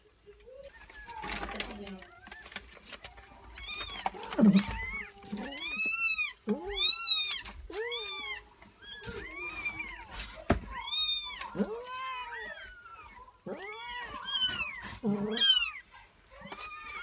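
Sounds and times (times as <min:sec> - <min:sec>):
kittens mewing: 0:00.4 - 0:17.0.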